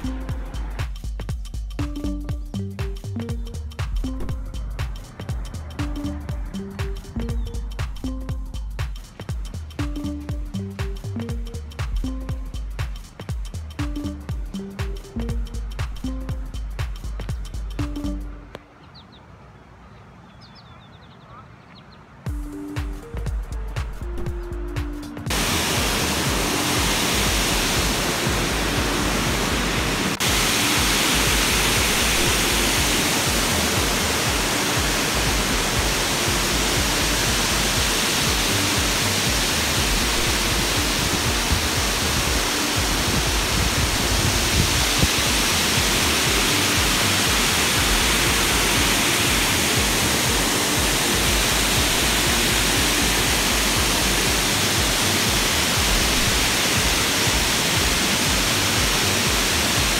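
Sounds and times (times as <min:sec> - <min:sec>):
water rushing at dam: 0:00.0 - 0:01.0, 0:02.8 - 0:18.4, 0:25.3 - 0:59.9.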